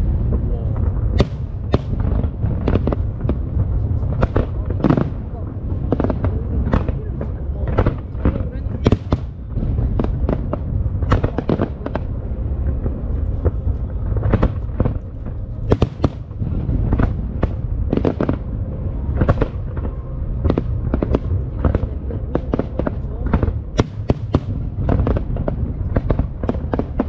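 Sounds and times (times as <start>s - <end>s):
fireworks cracks and bangs: 0.0s - 27.0s
low rumble: 0.0s - 27.0s.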